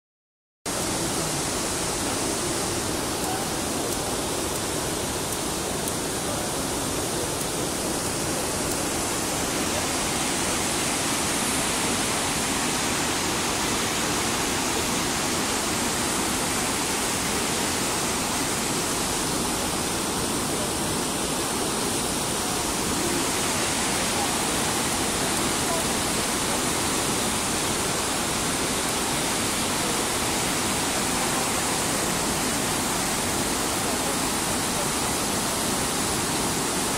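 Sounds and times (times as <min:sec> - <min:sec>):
water rushing over rocks: 0:00.7 - 0:36.9.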